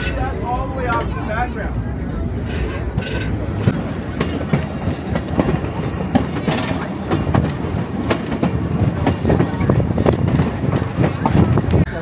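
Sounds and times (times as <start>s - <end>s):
wheels clicking over rails: 0.0s - 1.5s, 2.3s - 12.0s
train rumbling on track: 0.0s - 12.0s.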